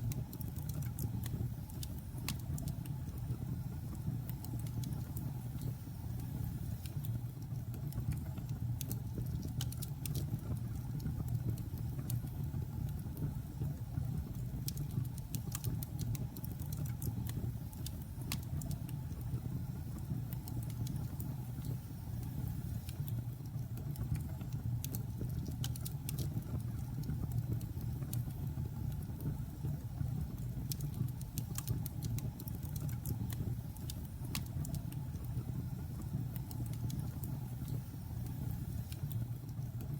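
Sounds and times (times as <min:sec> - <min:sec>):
burning wood crackles and pops: 0:00.0 - 0:39.9
logs burning rumble: 0:00.0 - 0:39.9.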